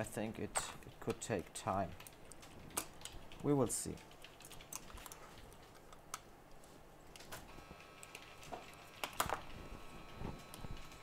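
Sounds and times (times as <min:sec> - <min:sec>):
faint thin steady whine: 0:00.0 - 0:11.0.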